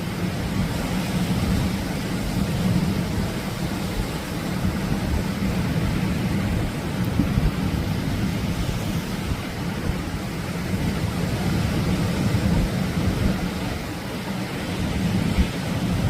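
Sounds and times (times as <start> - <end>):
surf roaring onto beach: 0.0 - 16.0.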